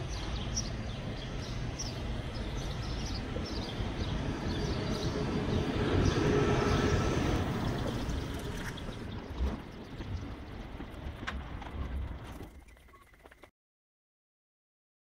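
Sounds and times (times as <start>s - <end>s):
low rumble: 0.0s - 12.7s
street noise: 0.0s - 13.4s.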